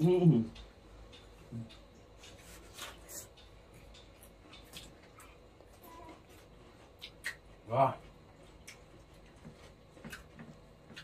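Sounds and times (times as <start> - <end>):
people eating by hand: 0.0 - 11.0.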